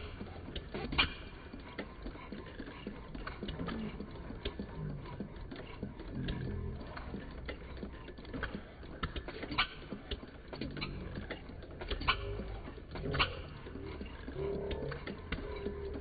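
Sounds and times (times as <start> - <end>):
steam engine clicks and taps: 0.0 - 16.0.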